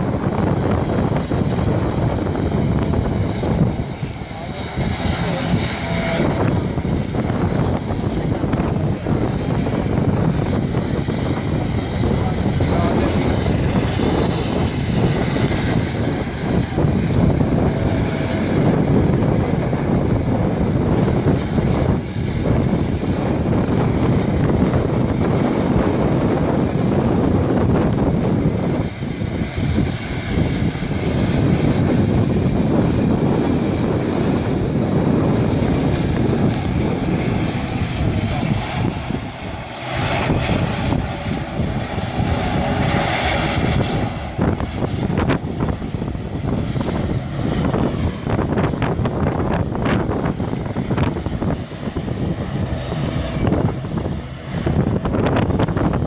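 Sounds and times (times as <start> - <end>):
turboprop engines rumbling: 0.0 - 56.0.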